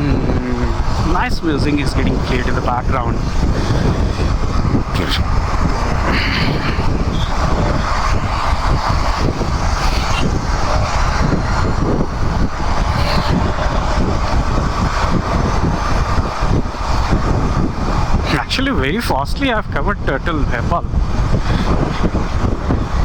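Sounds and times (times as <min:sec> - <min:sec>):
moving traffic: 0:00.0 - 0:23.0
wind buffeting on microphone: 0:00.0 - 0:23.0.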